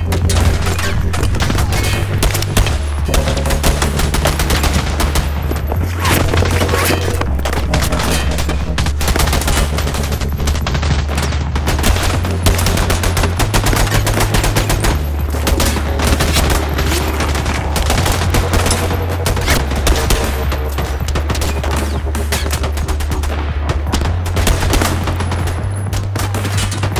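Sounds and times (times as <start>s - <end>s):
rapid gunfire: 0.0s - 26.9s
steady low drone: 0.0s - 26.9s.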